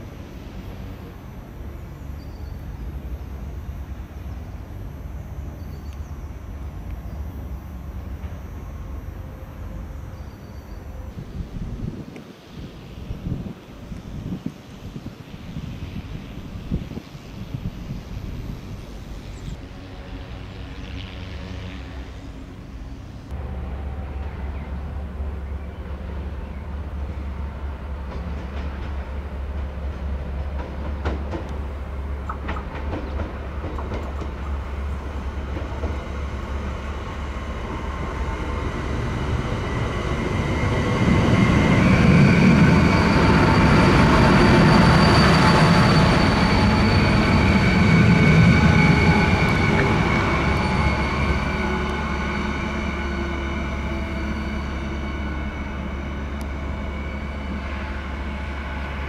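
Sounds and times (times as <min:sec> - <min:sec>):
train whining tones: 0:00.0 - 0:13.4, 0:15.4 - 0:59.0
train rumbling past: 0:00.0 - 0:59.0.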